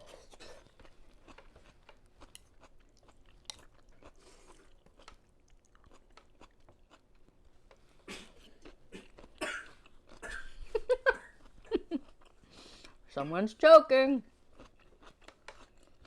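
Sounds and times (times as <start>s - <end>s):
close-up chewing: 0.0s - 10.2s, 11.0s - 13.1s, 14.4s - 16.0s.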